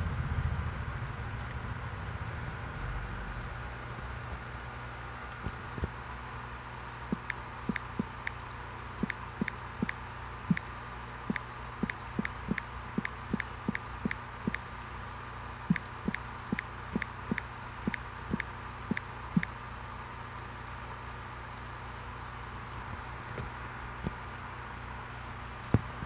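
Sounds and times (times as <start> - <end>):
steady equipment hum: 0.0 - 26.0.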